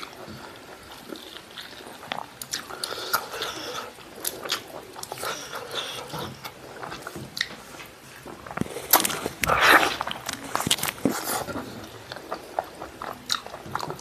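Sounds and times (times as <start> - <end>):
wet chewing and lip-smacking: 0.0 - 7.7, 8.4 - 14.0.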